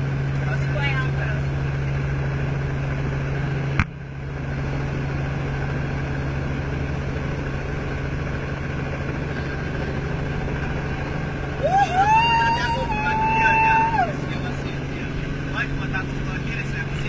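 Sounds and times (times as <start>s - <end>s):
helicopter running: 0.0s - 17.0s.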